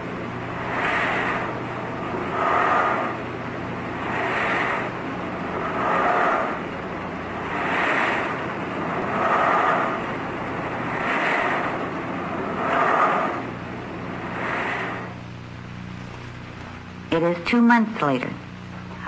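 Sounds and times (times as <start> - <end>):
respirator bellows whooshing: 0.0 - 16.4
steady low machine hum: 0.0 - 19.0.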